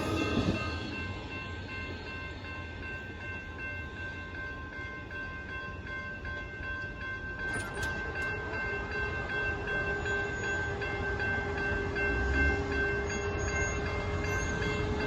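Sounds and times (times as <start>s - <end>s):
crossing warning bell dinging: 0.0s - 15.0s
passenger train rumbling past: 0.0s - 15.0s.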